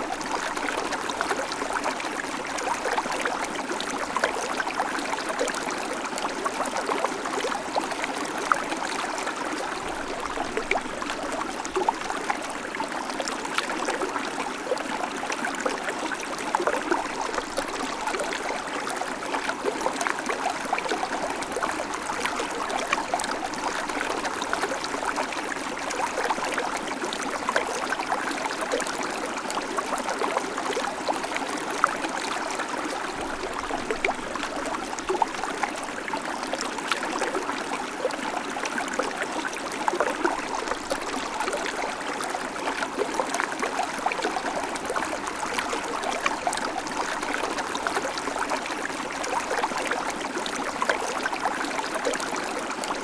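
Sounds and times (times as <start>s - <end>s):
creek water running over stones: 0.0s - 53.0s.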